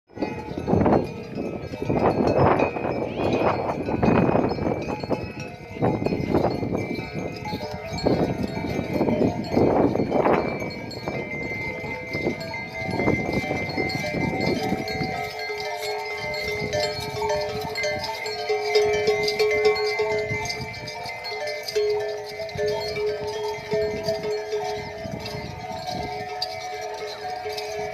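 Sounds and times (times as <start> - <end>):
cow bells ringing and clanking: 0.1 - 27.9.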